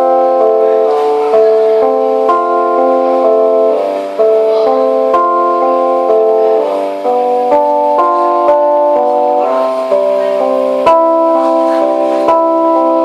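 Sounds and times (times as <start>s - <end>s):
band playing sustained chords: 0.0s - 13.0s.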